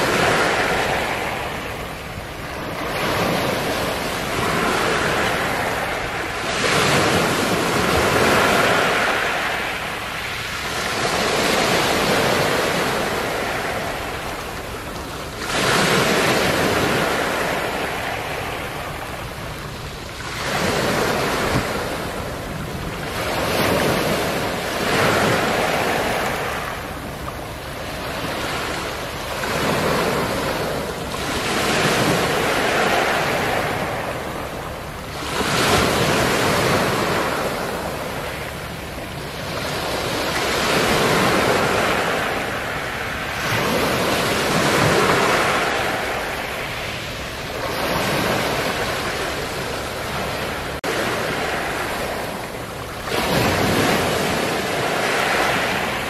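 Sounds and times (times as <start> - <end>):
small waves breaking: 0.0 - 56.0.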